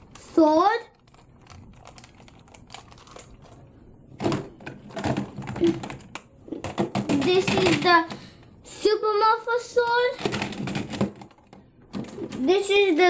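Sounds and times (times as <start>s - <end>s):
plastic toys clattering: 0.0s - 8.4s, 9.7s - 13.0s.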